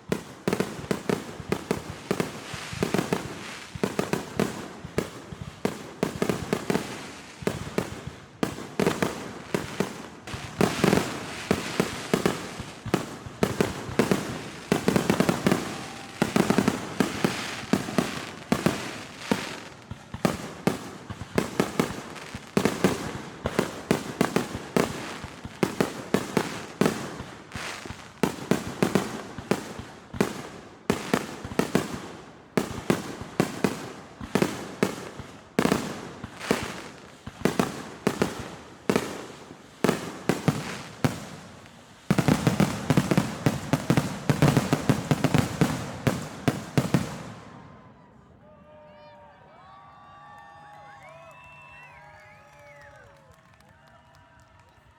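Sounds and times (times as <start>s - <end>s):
fireworks bangs and cracks: 0.0s - 47.7s.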